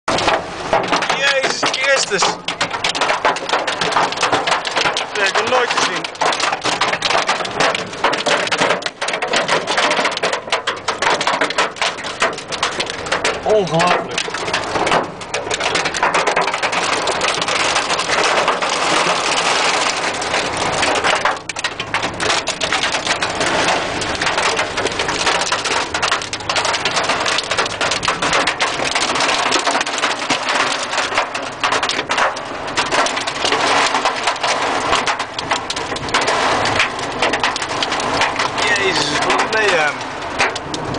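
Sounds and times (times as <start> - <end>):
rain and hail drumming on car: 0.1 - 40.9.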